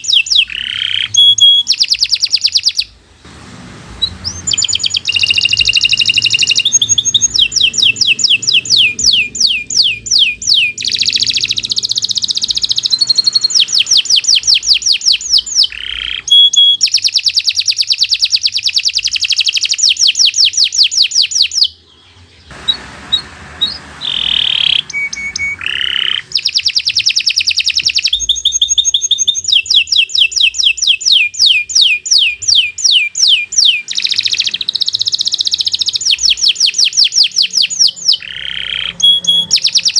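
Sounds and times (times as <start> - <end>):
canary calls: 0.0 - 3.1, 3.9 - 39.9
canary singing trills: 0.0 - 3.3, 3.9 - 39.9.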